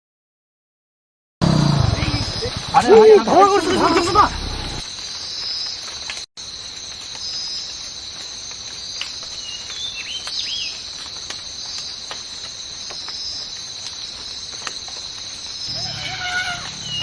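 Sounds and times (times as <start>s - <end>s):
insect chorus pulsing: 1.4s - 17.0s.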